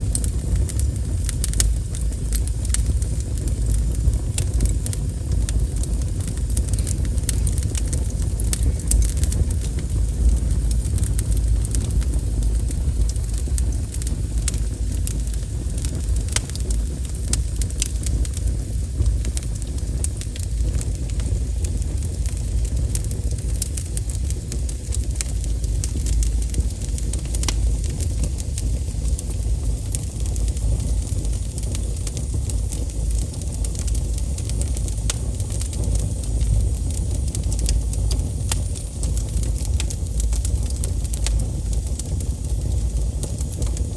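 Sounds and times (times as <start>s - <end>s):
burning wood crackling and popping: 0.0s - 43.9s
low rumble of flame: 0.0s - 43.9s.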